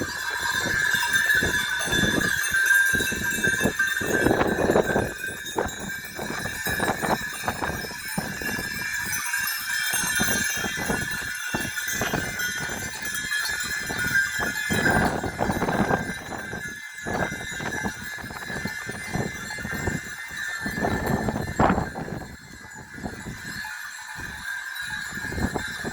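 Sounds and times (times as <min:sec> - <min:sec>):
sheep hooves clattering: 0:00.0 - 0:25.9.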